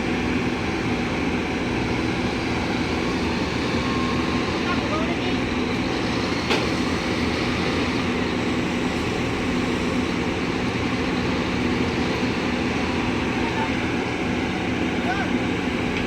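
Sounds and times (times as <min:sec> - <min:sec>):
construction machinery humming: 0:00.0 - 0:16.0.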